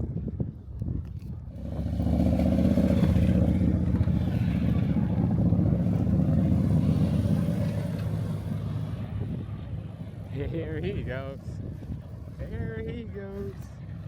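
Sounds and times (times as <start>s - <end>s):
engine droning: 1.5s - 14.0s.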